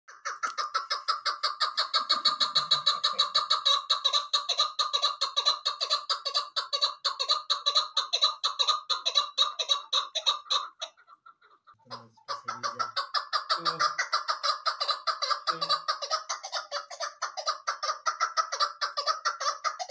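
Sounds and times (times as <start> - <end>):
partridge calling: 0.1 - 19.9.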